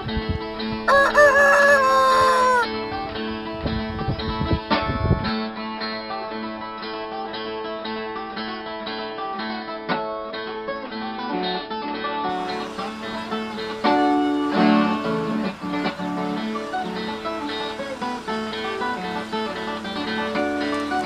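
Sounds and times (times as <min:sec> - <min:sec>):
plucked string music: 0:00.5 - 0:21.0.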